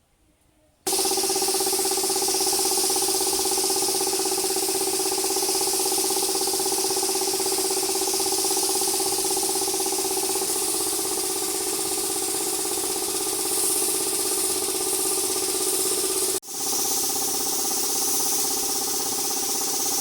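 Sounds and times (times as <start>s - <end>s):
hiss: 0.9s - 20.0s
machine humming with flutter: 0.9s - 20.0s.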